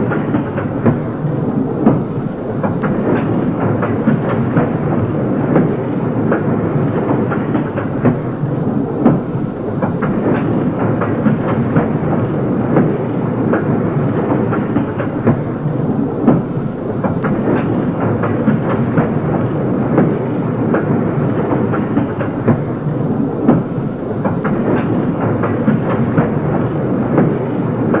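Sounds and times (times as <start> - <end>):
clanks from wheels and couplings: 1.8 - 28.0.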